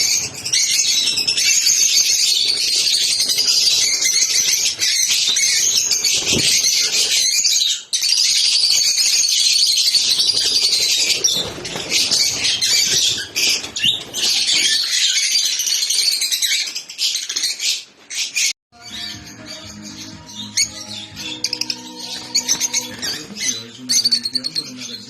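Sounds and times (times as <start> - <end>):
lovebirds chattering: 0.0 - 15.6, 19.0 - 25.0.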